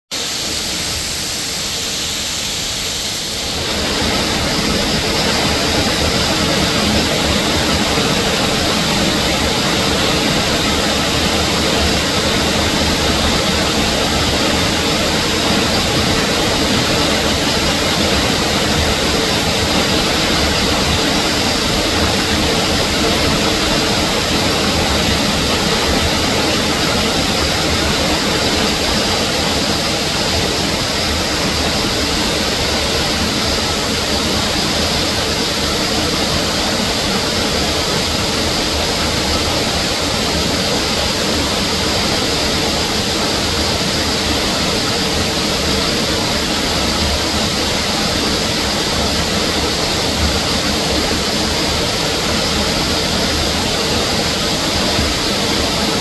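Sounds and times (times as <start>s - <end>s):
waterfall rushing: 0.2s - 56.0s.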